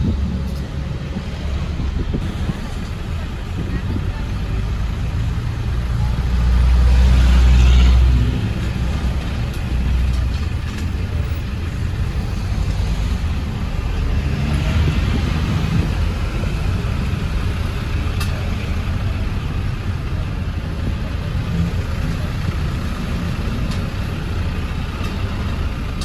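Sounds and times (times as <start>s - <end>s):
vans driving past: 0.0s - 26.0s.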